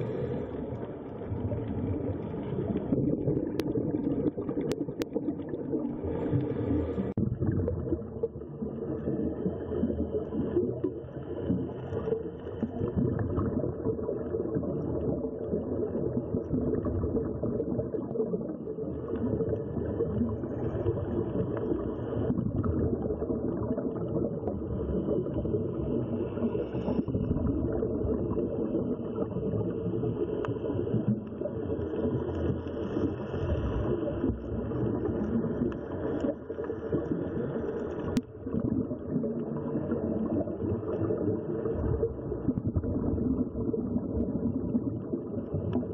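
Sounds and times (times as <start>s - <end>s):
muffled underwater rumble: 0.0s - 45.9s.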